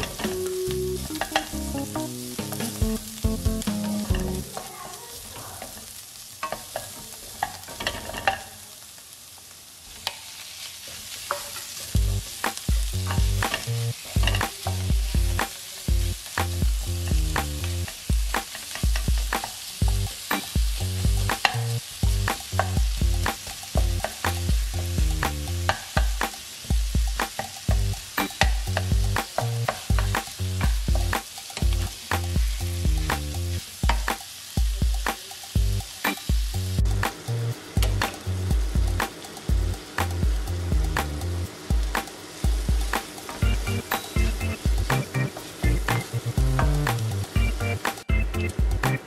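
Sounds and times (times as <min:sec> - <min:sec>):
food sizzling in a frying pan: 0:00.0 - 0:49.0.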